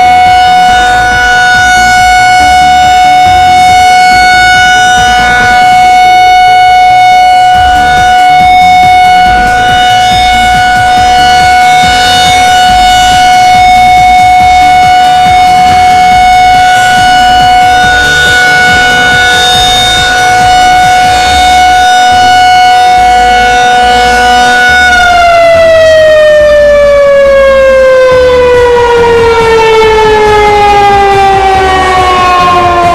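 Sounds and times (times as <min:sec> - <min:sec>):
pulsing bass music: 0:00.0 - 0:32.9
tornado warning siren: 0:00.0 - 0:32.9.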